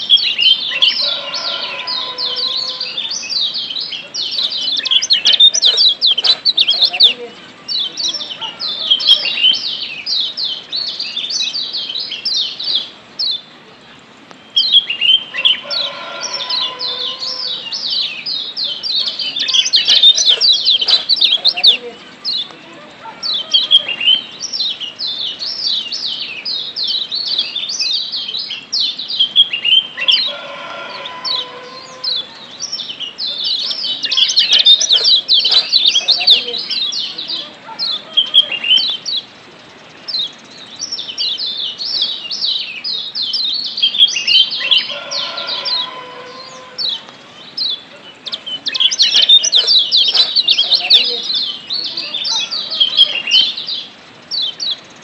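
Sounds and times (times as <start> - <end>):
birds rapid high chirping: 0.0 - 55.0
lower steady bird call: 0.0 - 55.0.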